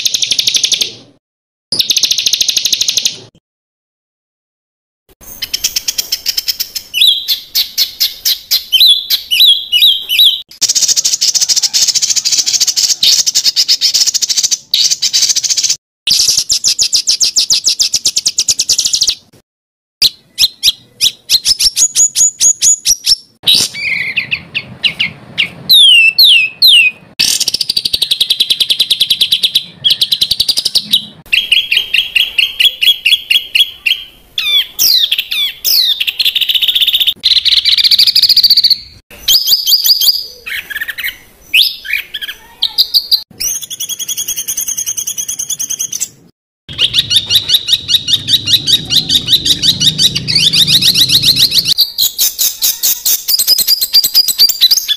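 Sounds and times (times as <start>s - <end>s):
bird song with fast trills: 1.7s - 3.2s, 5.2s - 19.3s, 20.0s - 54.9s.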